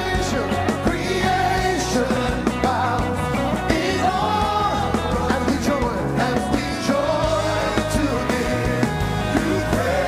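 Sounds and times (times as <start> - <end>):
bass line: 0.0 - 10.0.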